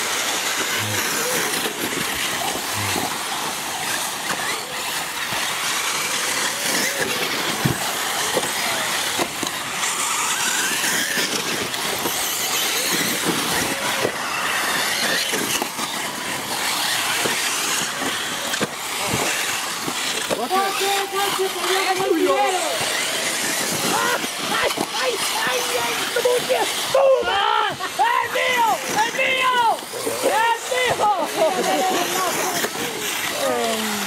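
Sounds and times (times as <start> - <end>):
racing buggy motors revving: 0.0 - 34.0.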